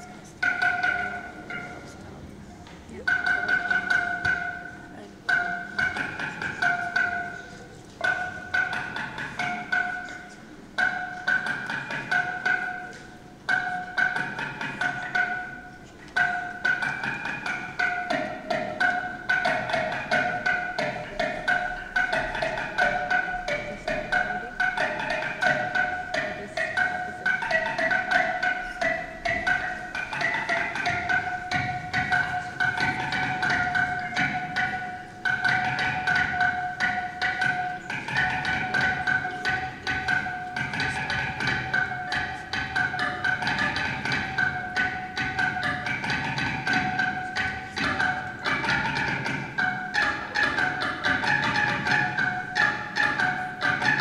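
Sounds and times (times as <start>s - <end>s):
bell-like mallet percussion notes: 0.0s - 2.0s, 3.0s - 54.0s.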